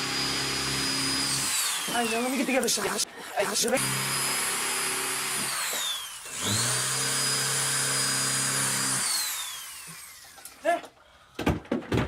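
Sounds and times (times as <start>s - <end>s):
cordless drill motor whine: 0.0s - 10.6s
drill driving screws into wood: 0.0s - 10.6s.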